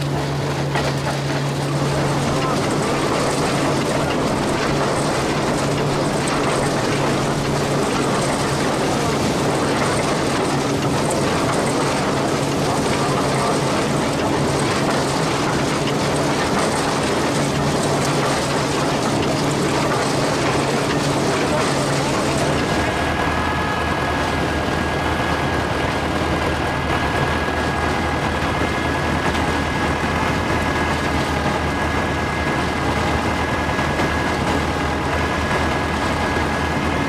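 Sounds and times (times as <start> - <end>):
baler mechanical clatter: 0.0 - 37.0
machinery low hum: 0.0 - 37.0.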